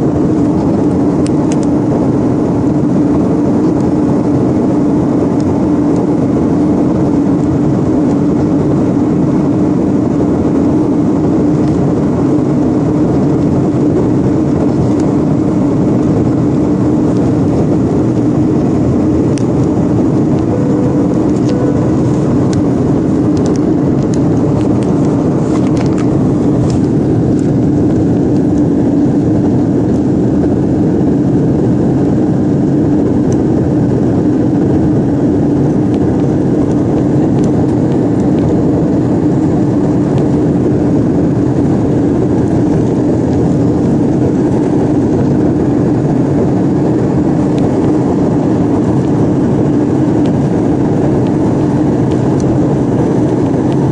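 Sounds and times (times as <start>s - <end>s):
jet engines droning in cabin: 0.0s - 53.9s.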